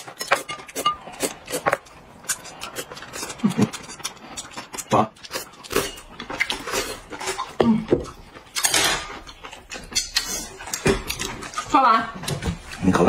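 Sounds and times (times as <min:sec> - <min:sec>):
chewing and slurping: 0:00.0 - 0:12.9.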